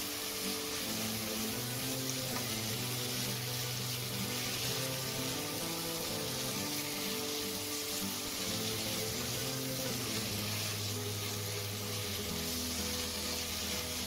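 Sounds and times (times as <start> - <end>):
meat sizzling in a pot: 0.0 - 14.0
soft background music: 0.0 - 14.0.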